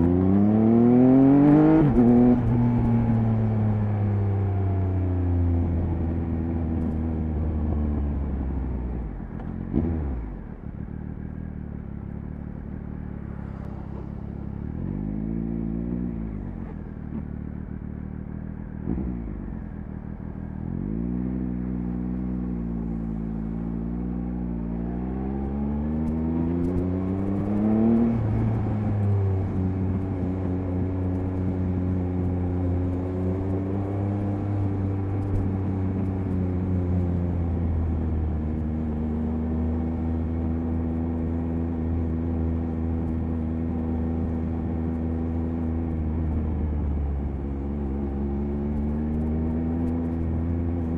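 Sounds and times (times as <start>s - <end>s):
motorcycle engine while riding: 0.0s - 50.9s.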